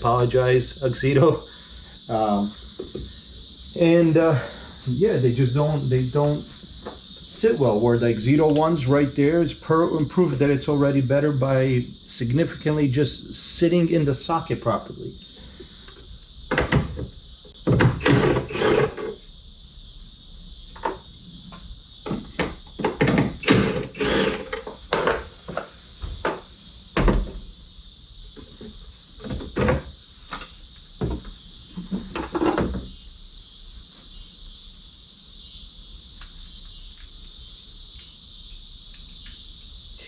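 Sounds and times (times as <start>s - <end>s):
high insect chirring: 0.0s - 40.0s.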